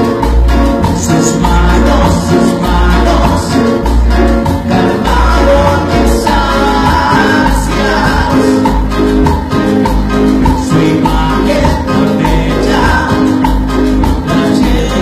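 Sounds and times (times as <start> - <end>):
live cumbia band playing: 0.0 - 15.0
person singing: 0.8 - 15.0.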